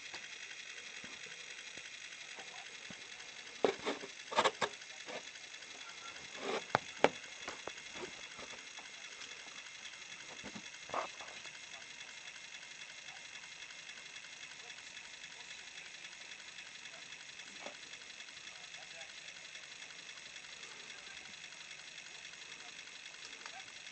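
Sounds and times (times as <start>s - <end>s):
disc spinning with high whine: 0.0s - 23.9s.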